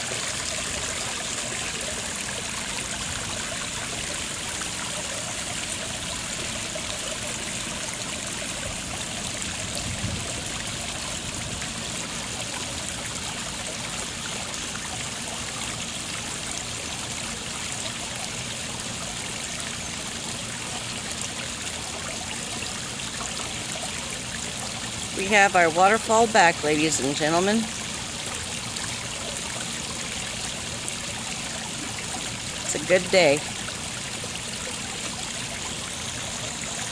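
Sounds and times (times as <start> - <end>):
water splashing over rocks: 0.0 - 36.9.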